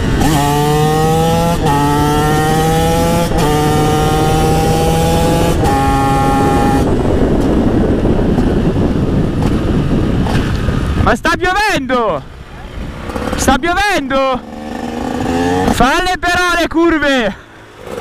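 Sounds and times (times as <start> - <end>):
two-stroke motorcycle engine revving: 0.0 - 10.9, 12.8 - 16.0, 17.7 - 18.0
wind rush on microphone: 0.0 - 16.0.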